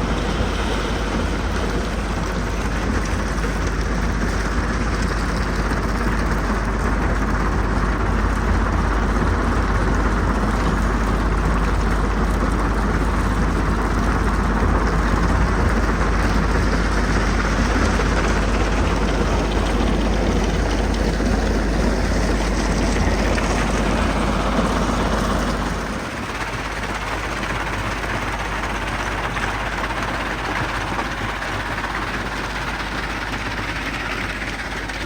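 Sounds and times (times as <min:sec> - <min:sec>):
diesel engines droning: 0:00.0 - 0:06.6, 0:07.4 - 0:35.0.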